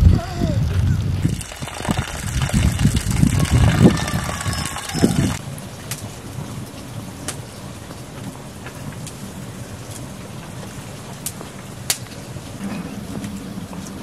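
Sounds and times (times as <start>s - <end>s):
low rumbling hiss: 0.0s - 14.0s
wood fire crackling and popping: 0.1s - 14.0s.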